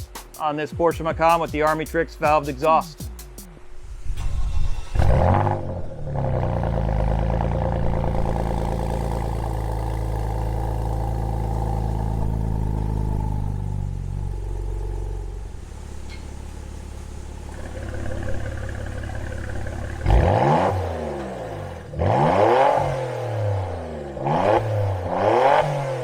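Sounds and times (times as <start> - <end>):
car engine idling: 1.1 - 26.0
car engine cold start: 3.6 - 25.7.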